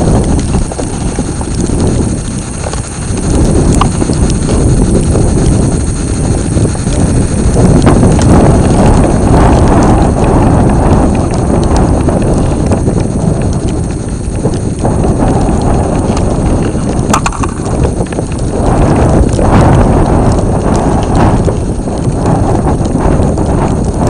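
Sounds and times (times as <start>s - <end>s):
rumbling underwater water noise: 0.0s - 24.0s.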